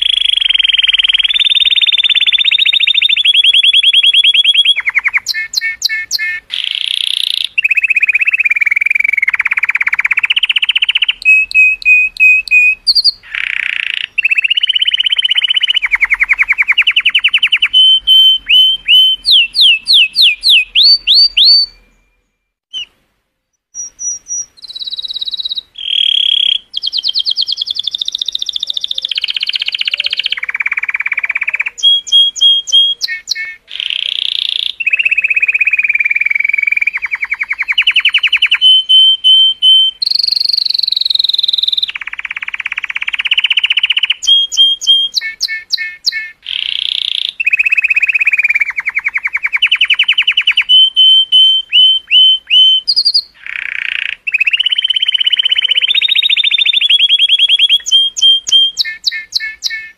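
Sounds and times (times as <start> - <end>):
canary singing trills: 0.0 - 23.0, 23.6 - 59.9.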